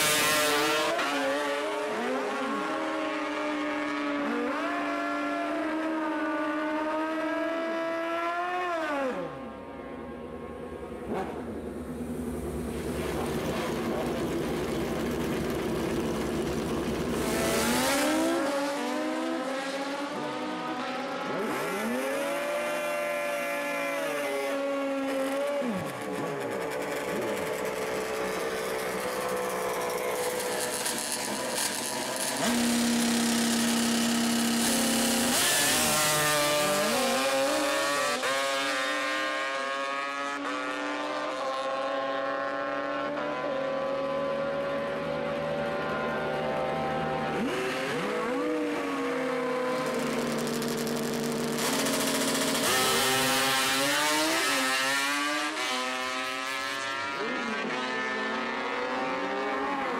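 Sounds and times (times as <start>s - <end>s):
motorcycle engines at full throttle: 0.0s - 59.9s.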